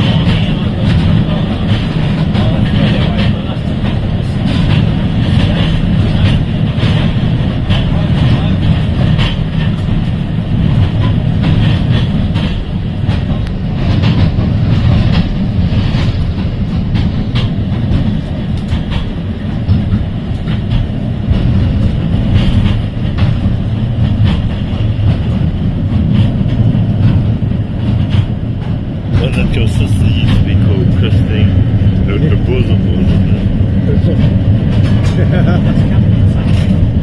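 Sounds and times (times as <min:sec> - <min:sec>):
tram wheels rumbling on rail: 0:00.0 - 0:37.0.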